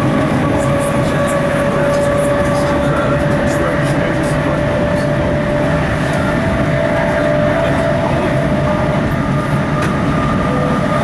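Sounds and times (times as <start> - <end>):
electric train whine: 0.0 - 11.0
train wheels on track: 0.0 - 11.0.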